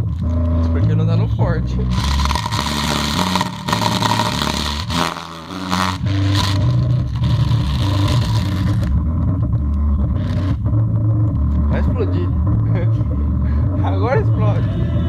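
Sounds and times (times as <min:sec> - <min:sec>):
loud deep bass notes: 0:00.0 - 0:15.0.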